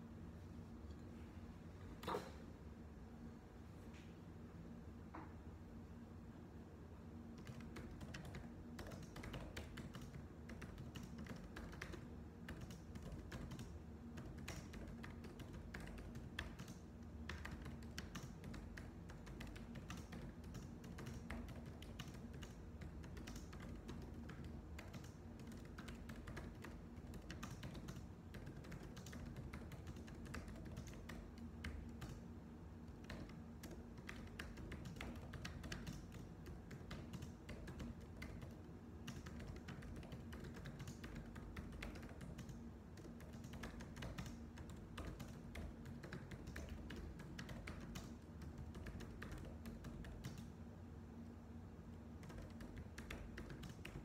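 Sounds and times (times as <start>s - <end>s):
typing on computer keyboard: 7.3s - 50.5s, 52.2s - 54.0s.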